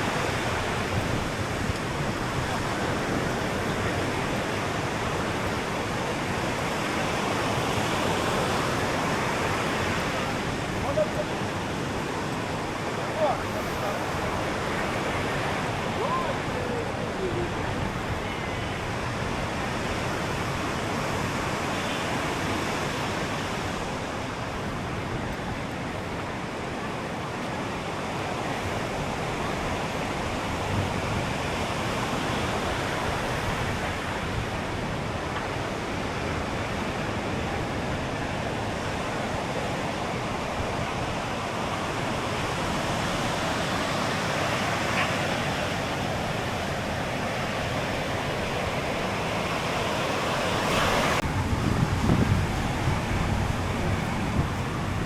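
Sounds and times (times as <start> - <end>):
waves breaking on shore: 0.0 - 55.0.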